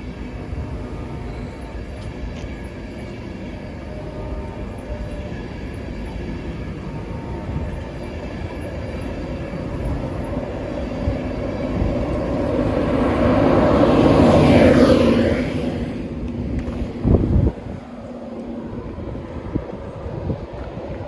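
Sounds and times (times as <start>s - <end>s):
train passing rumble: 0.0s - 21.0s.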